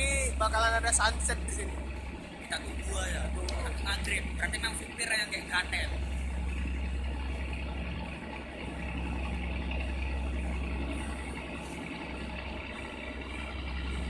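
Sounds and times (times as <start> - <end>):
ferry engine drone: 0.0 - 14.0.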